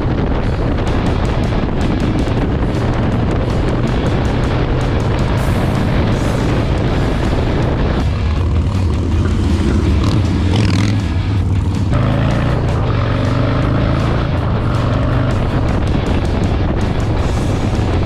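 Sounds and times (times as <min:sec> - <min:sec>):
motorcycle engine running: 0:00.0 - 0:18.0
music: 0:00.0 - 0:18.0.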